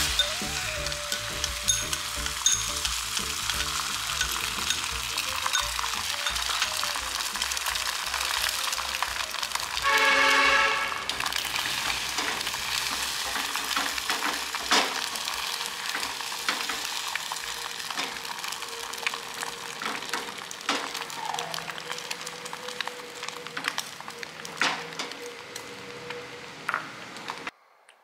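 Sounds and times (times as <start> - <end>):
egg sizzling in a pan: 0.0 - 27.5.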